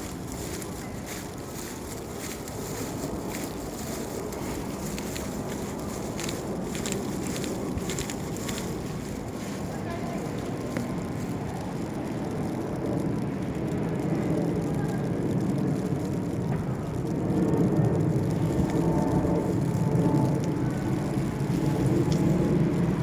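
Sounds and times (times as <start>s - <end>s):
low rumble of vehicle noise: 0.0s - 23.0s.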